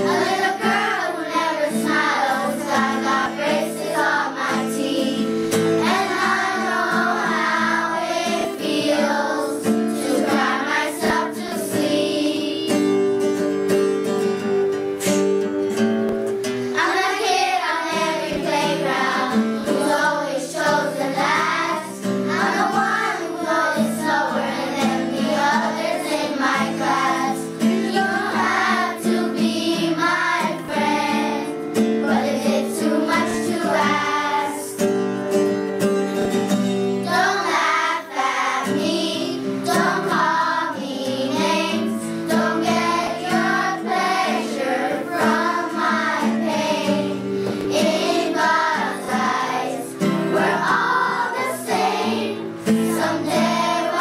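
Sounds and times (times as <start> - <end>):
children singing with woman: 0.0 - 13.2, 16.6 - 35.0, 37.0 - 54.0
acoustic guitar: 0.0 - 54.0.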